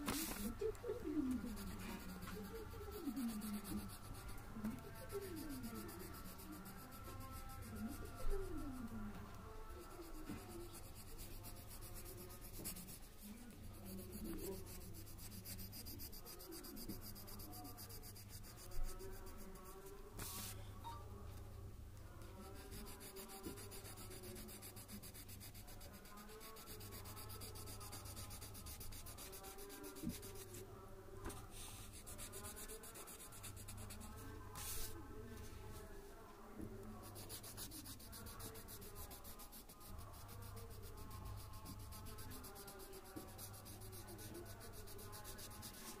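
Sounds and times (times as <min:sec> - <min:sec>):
pencil scratching on paper: 0:00.0 - 0:09.0, 0:09.7 - 0:20.6, 0:22.2 - 0:30.7, 0:31.3 - 0:35.0, 0:36.9 - 0:46.0.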